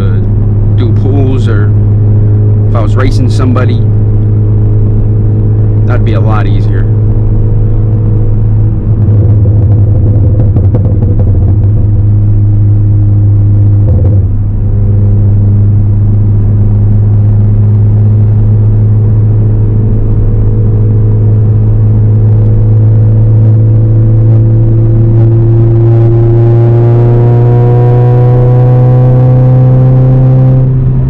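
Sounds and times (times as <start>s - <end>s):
car engine and exhaust droning: 0.0s - 31.0s.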